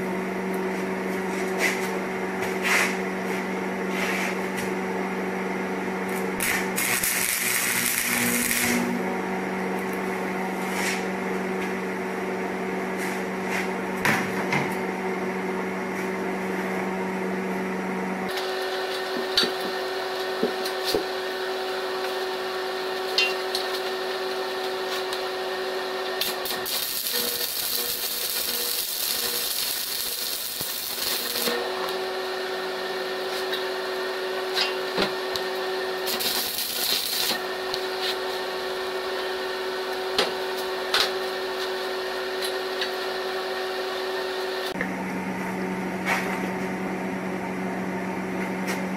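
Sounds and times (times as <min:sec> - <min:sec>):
machine hum: 0:03.2 - 0:48.4.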